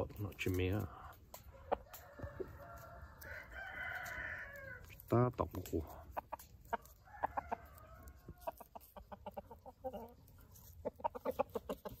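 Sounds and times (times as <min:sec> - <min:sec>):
rooster clucking: 0:00.7 - 0:04.9, 0:06.0 - 0:12.0.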